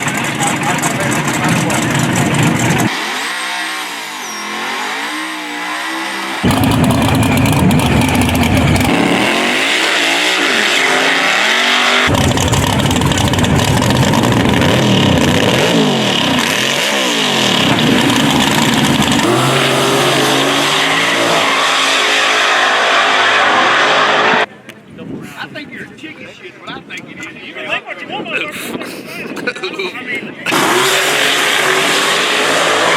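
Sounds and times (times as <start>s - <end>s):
race car engines revving: 0.0s - 24.5s, 30.4s - 32.9s.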